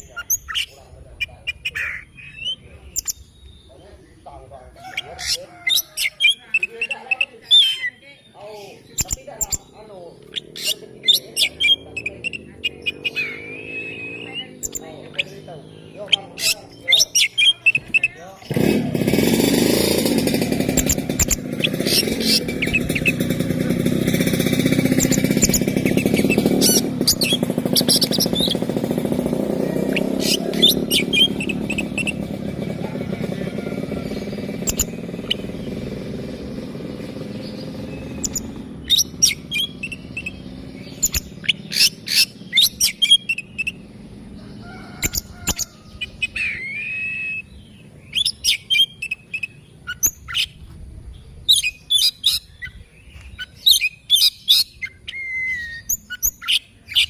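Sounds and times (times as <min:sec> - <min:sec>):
bird singing whistled notes: 0:00.0 - 0:18.7, 0:19.4 - 0:44.0, 0:44.6 - 0:57.0
low engine rumble: 0:00.0 - 0:57.0.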